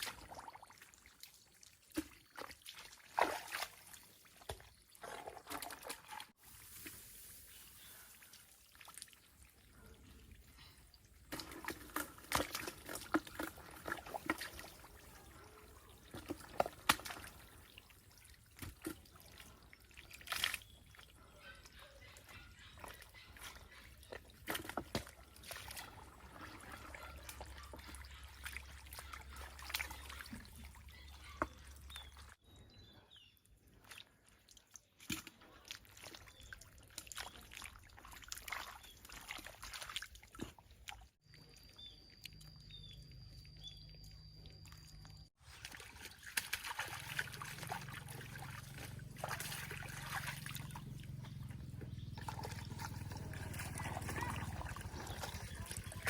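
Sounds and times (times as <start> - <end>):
water splashing and trickling: 0.0 - 32.7, 33.4 - 56.0.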